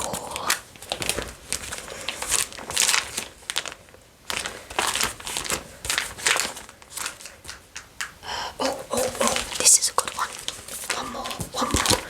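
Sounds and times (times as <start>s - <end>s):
cards rustling and scraping: 0.0s - 7.7s, 9.0s - 12.0s.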